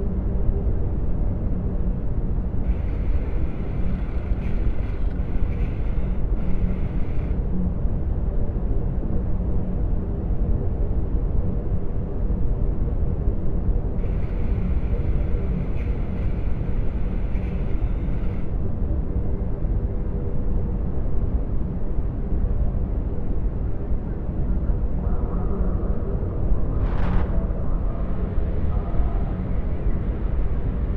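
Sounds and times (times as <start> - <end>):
low rumble and hum: 0.0 - 30.9.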